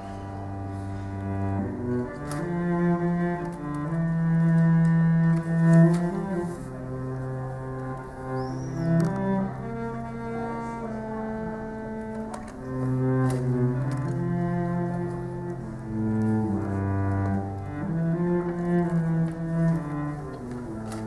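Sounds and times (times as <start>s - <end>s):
slow cello melody: 0.0s - 21.0s.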